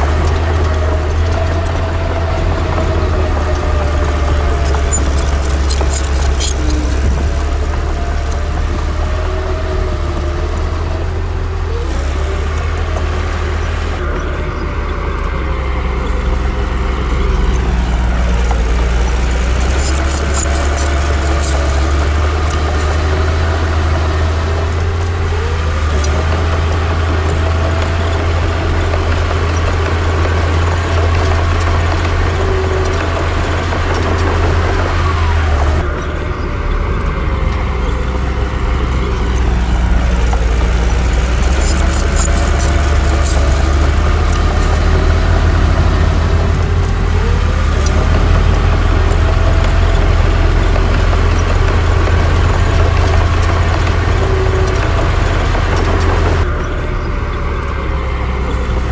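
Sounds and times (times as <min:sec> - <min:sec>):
bulldozer diesel engine running: 0:00.0 - 0:58.9
sharp clicks: 0:00.1 - 0:14.1, 0:16.0 - 0:56.8.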